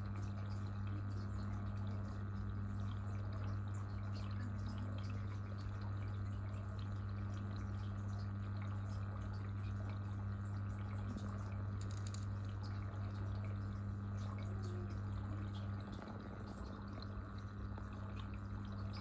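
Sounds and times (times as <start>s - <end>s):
aquarium pump humming: 0.0s - 19.0s
water trickling and dripping: 0.0s - 19.0s.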